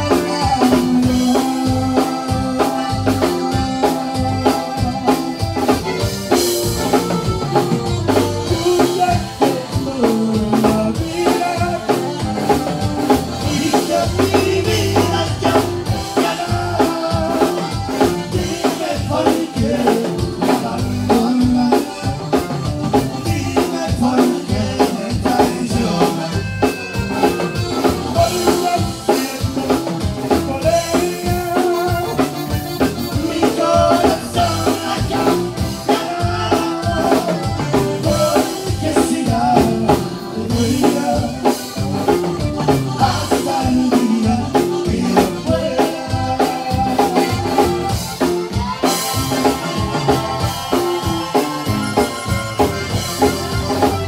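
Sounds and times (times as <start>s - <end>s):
button accordion melody: 0.0s - 54.0s
drum-kit beat: 0.0s - 54.0s
guitar and bass: 0.0s - 54.0s.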